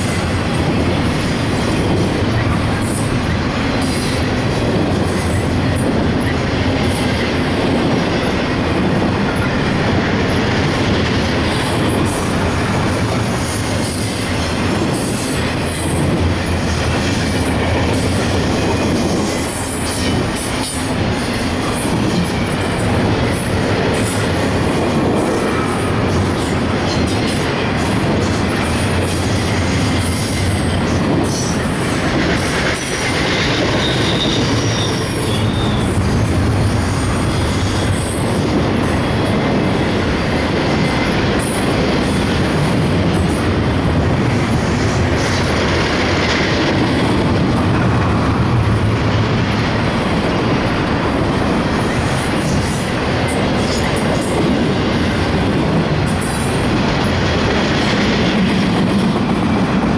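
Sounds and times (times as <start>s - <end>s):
train wheels squealing: 0.0s - 8.3s, 9.0s - 43.5s, 51.3s - 58.5s
freight train wheels rumbling: 0.0s - 59.9s.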